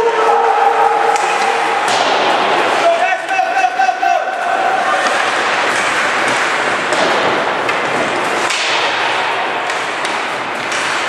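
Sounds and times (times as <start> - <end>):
hockey sticks and puck clacking: 0.9 - 11.0.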